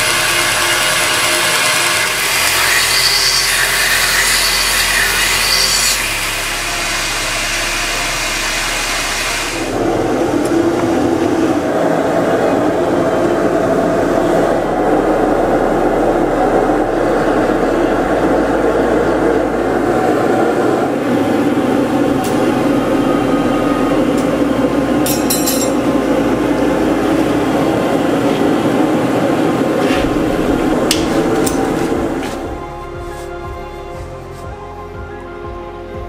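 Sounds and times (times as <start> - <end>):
gas forge burner roaring: 0.0 - 34.0.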